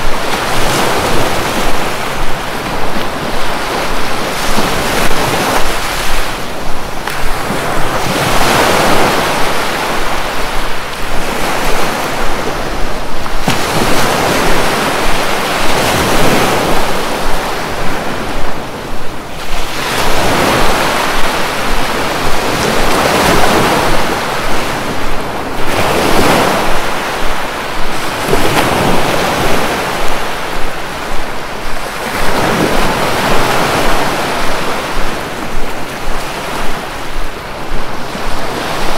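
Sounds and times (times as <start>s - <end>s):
sea surf breaking on beach: 0.0s - 38.9s.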